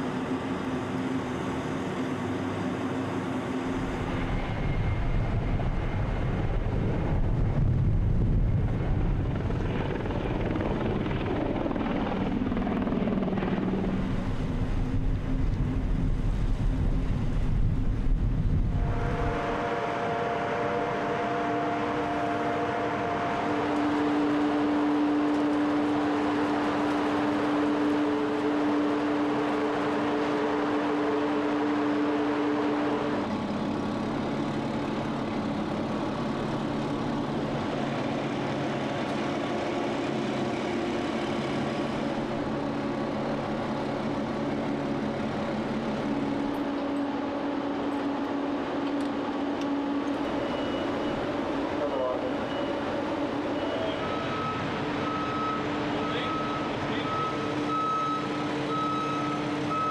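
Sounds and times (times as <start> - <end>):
boat engines rumbling: 0.0 - 59.9
tracked vehicle engine drone: 0.0 - 59.9
wind: 0.0 - 59.9.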